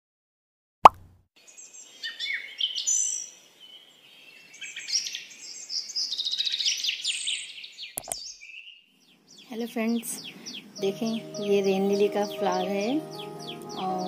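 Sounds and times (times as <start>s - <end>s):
small songbirds chirping: 1.4s - 14.0s.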